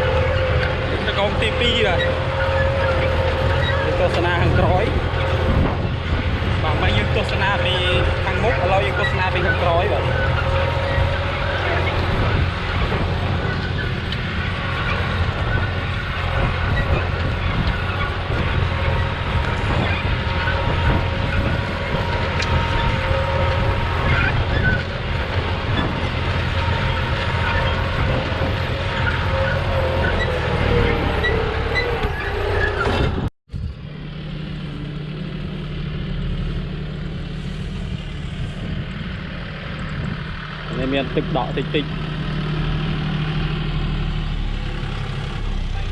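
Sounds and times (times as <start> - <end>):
engine whine: 0.0 - 45.9
tractor diesel engine running: 0.0 - 45.9.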